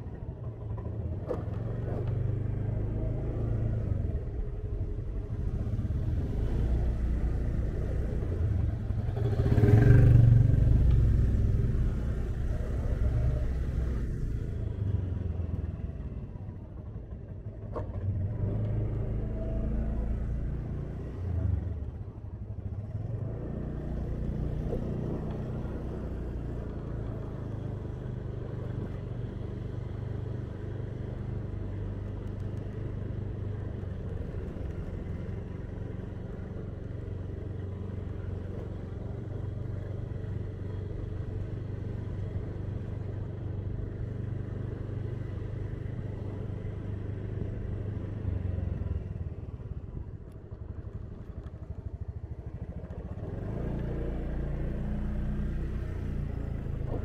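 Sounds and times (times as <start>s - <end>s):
motorcycle engine running: 0.0s - 19.7s, 24.0s - 57.0s
road and street noise: 0.0s - 57.0s.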